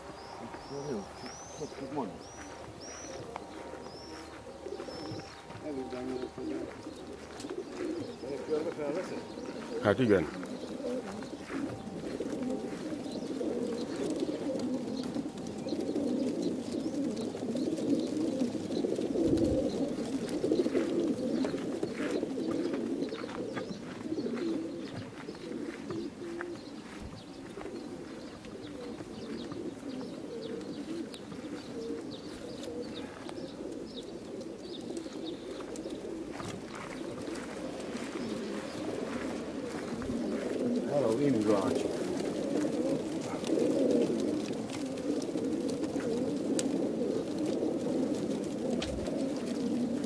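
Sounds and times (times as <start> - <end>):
pigeons cooing: 0.0 - 50.0.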